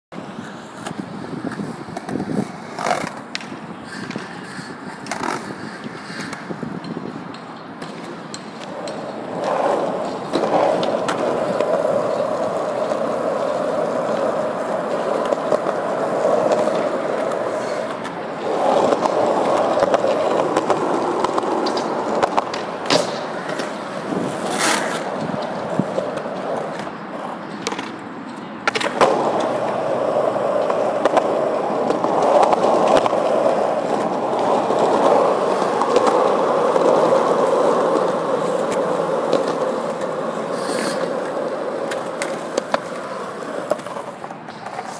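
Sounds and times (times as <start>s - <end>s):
skateboard clacks: 0.1s - 44.9s
skateboard wheels rolling on concrete: 0.1s - 44.9s.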